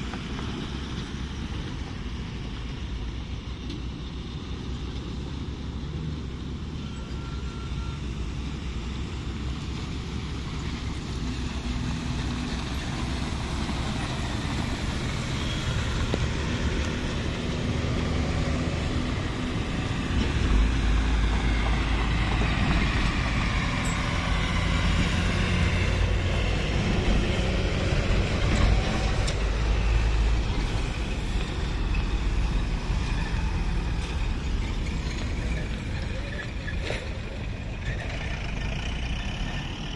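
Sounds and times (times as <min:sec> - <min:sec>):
heavy diesel trucks passing: 0:00.0 - 0:39.9.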